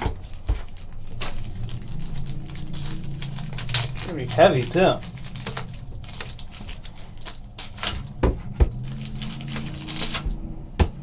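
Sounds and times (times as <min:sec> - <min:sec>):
card rustling: 0:00.0 - 0:11.0.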